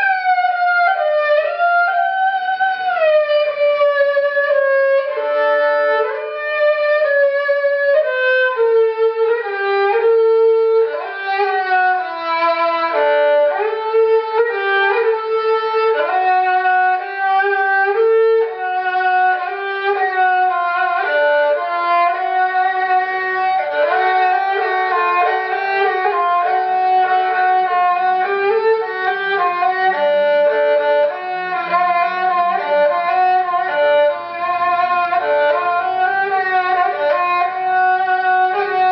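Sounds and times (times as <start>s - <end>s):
bowed lyra melody: 0.0s - 38.9s.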